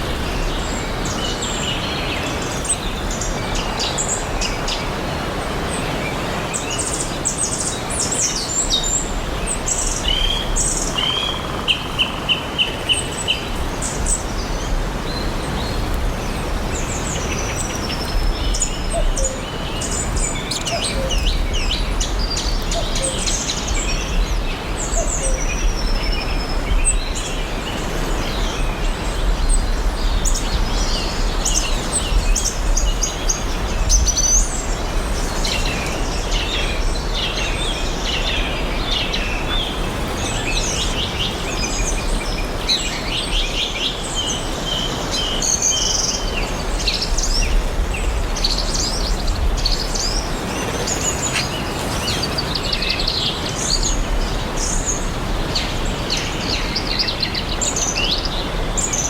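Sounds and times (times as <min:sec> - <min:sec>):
birds chirping and singing: 0:06.2 - 0:59.0.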